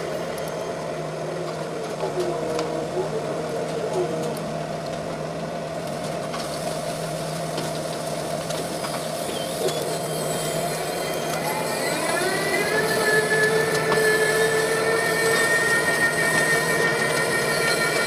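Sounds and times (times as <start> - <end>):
crane motor hum and whine: 0.0 - 18.0.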